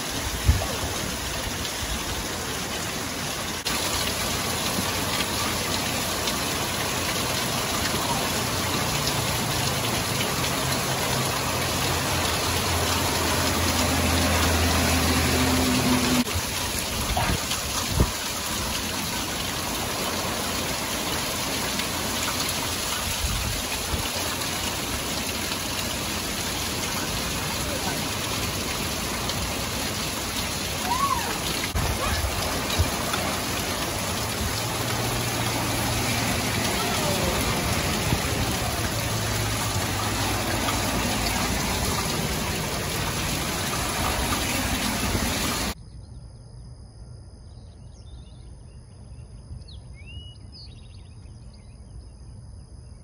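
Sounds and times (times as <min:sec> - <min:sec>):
heavy rain pouring: 0:00.0 - 0:45.8
water dripping off roof edge: 0:00.0 - 0:45.8.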